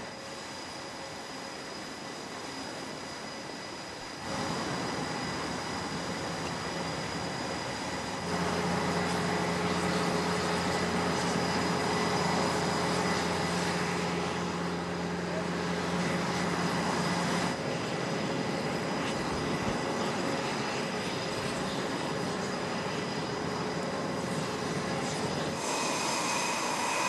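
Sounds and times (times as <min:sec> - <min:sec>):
jet engine roar: 0:00.0 - 0:27.0
high whine: 0:04.1 - 0:27.0.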